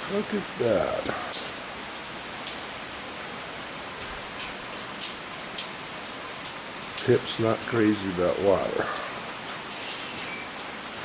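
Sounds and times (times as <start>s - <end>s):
steady rain hiss: 0.0s - 11.0s
rain drop taps: 0.6s - 3.0s, 3.6s - 10.9s.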